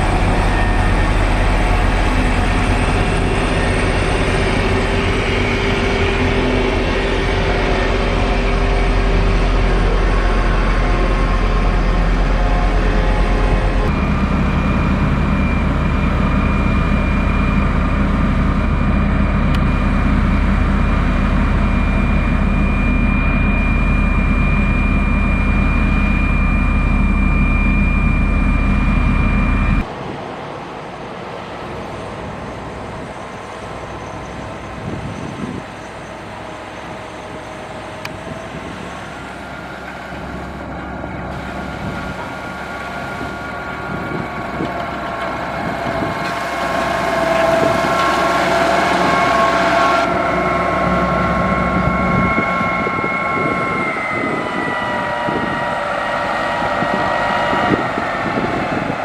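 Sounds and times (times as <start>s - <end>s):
high whine: 0.0s - 29.9s, 34.0s - 59.0s
heavy machinery diesel engine: 0.0s - 59.0s.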